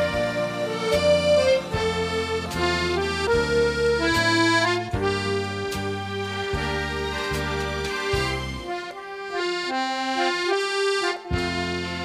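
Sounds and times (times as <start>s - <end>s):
accordion playing melody: 0.0s - 12.0s.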